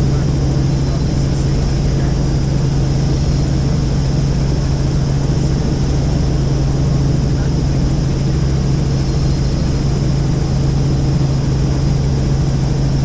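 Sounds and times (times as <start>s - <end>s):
helicopter drone in flight: 0.0s - 13.0s.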